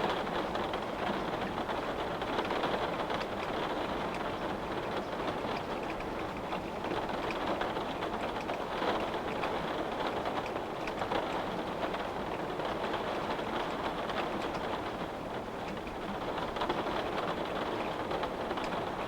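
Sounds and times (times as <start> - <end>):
hiss of rainfall: 0.0 - 19.0
raindrops ticking on window: 0.1 - 19.0.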